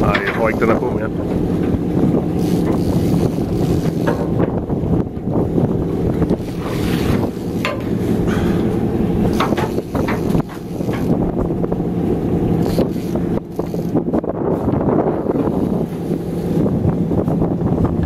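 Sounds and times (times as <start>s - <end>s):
boat engine running: 0.0s - 18.0s
wind buffeting microphone: 0.0s - 18.0s.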